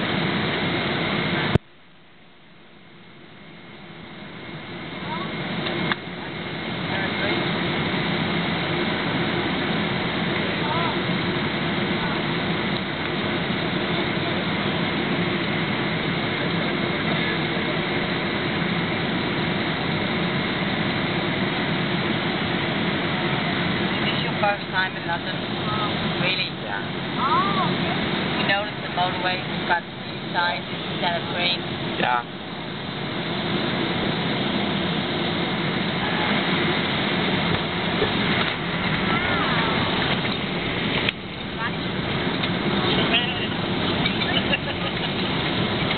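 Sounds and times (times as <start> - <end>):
jet engines in aircraft cabin: 0.0 - 45.9.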